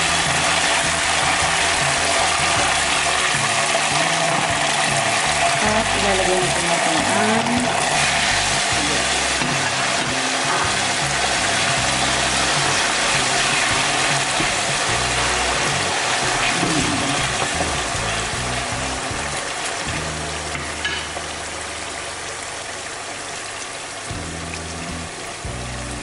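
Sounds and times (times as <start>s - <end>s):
background music low held notes: 0.0s - 22.8s, 24.0s - 26.0s
oil sizzling in a pan: 0.0s - 26.0s.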